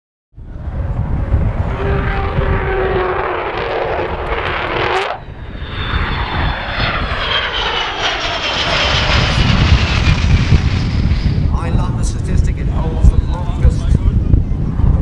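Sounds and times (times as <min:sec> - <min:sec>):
high engine whine: 0:00.4 - 0:14.0
jet engines roaring: 0:00.4 - 0:15.0.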